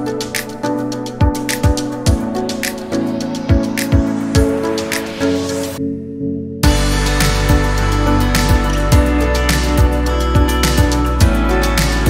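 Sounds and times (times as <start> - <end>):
background music with chords: 0.0 - 12.0.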